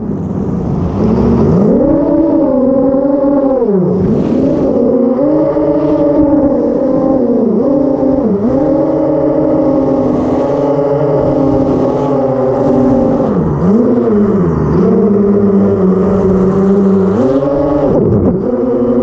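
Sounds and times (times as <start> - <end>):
quadcopter motors whining: 1.0 - 19.0.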